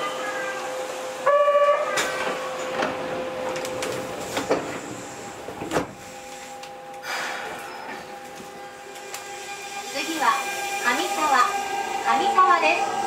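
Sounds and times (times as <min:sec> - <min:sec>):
train electrical hum: 0:00.0 - 0:13.0.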